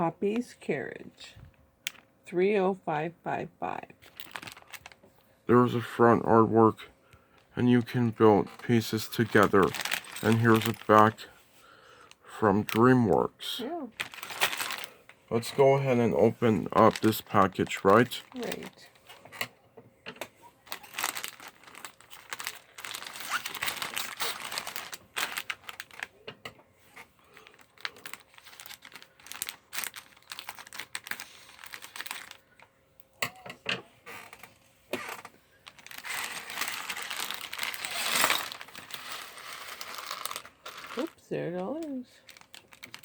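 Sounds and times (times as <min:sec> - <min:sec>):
plastic bag crinkling: 0:03.6 - 0:19.2, 0:20.6 - 0:26.2, 0:26.8 - 0:32.6, 0:34.2 - 0:43.0.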